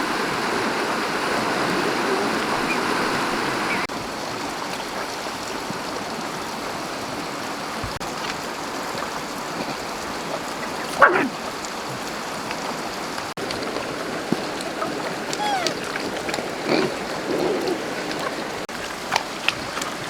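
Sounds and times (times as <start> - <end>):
flowing stream: 0.0 - 20.0.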